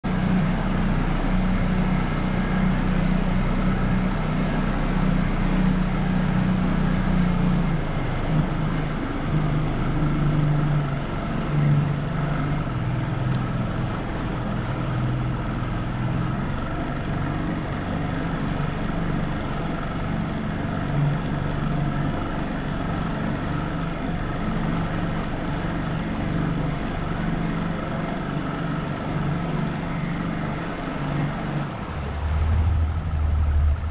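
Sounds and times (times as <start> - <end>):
motorboat engine running: 0.0 - 33.9.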